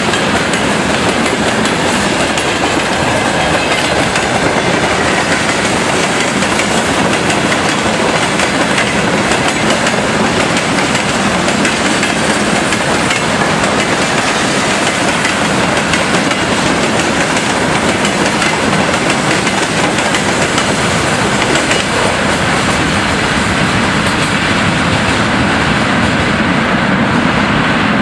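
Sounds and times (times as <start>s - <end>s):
wheels clacking over rail joints: 0.0s - 22.8s
train wheels rumbling on rails: 0.0s - 28.0s.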